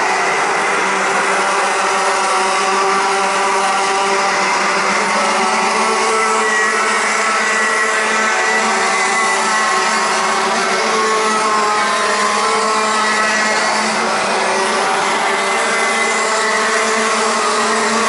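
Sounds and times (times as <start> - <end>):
racing kart engines whining: 0.0 - 18.0.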